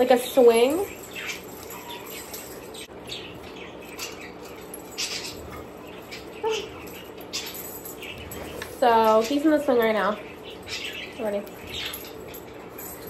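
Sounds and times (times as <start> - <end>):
pet birds chirping: 0.0 - 13.0.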